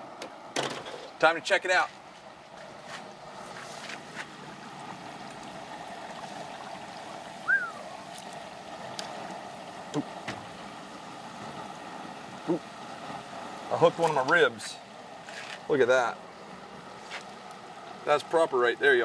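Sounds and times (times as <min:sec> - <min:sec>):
hot oil bubbling and hissing: 0:00.0 - 0:19.0.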